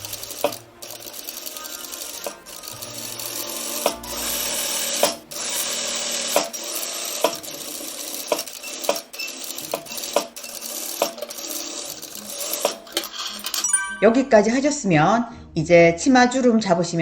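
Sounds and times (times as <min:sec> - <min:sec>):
sewing machine stitching: 0:00.0 - 0:13.6
sharp ringing clicks: 0:00.0 - 0:14.3.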